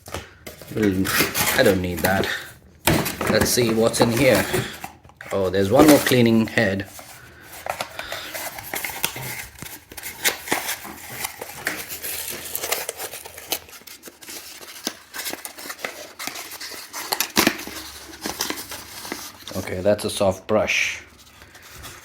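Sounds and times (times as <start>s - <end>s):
packaging rustling and crinkling: 0.0s - 20.3s, 21.0s - 22.0s.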